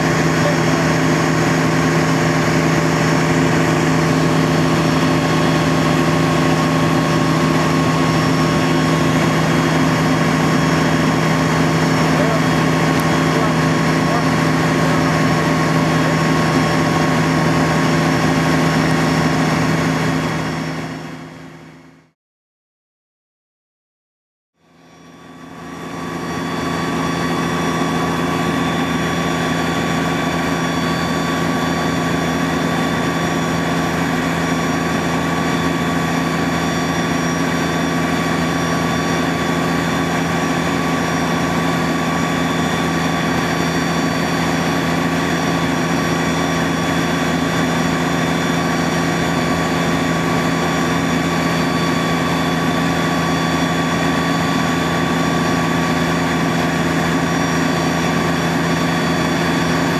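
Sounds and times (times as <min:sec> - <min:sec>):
fire pump engine drone: 0:00.0 - 0:22.2, 0:24.6 - 0:59.9.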